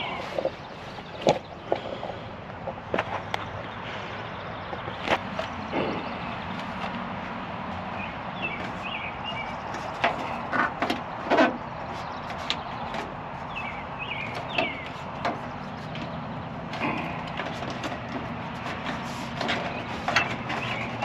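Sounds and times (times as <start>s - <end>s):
background hum: 0.0s - 21.0s
birds chirping: 0.0s - 21.0s.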